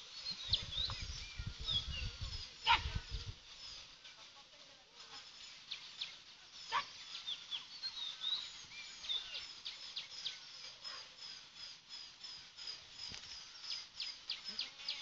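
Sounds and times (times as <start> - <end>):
birds chirping: 0.0 - 4.4, 5.0 - 15.0.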